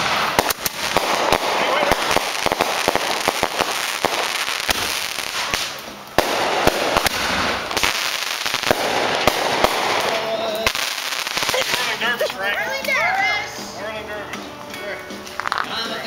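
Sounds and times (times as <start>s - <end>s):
fireworks popping and crackling: 0.0s - 13.5s, 14.4s - 16.0s.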